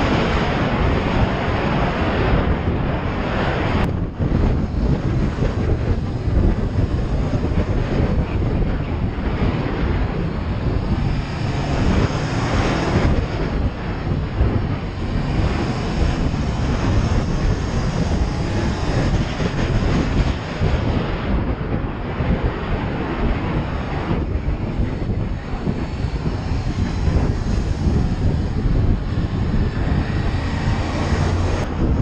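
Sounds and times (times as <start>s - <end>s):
wind rush on microphone: 0.0s - 32.0s
motorcycle engine running: 3.9s - 21.4s, 23.2s - 32.0s.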